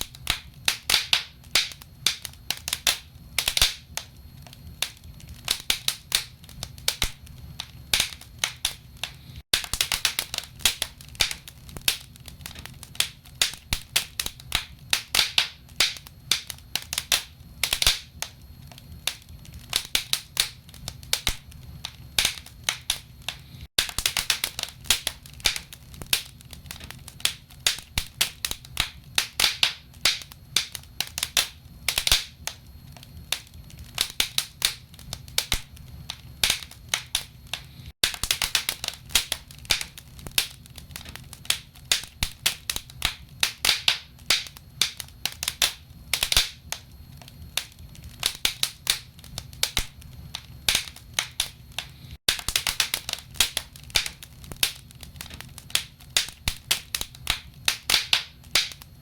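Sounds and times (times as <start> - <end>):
low rumble of fire: 0.0 - 59.0
wood fire crackling: 0.0 - 59.0.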